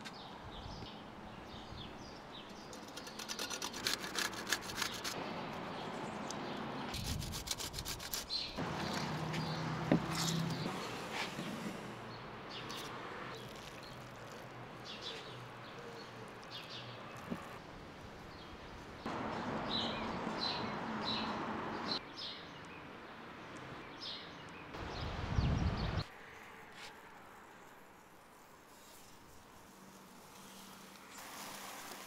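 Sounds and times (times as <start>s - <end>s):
small birds chirping: 0.0s - 26.1s.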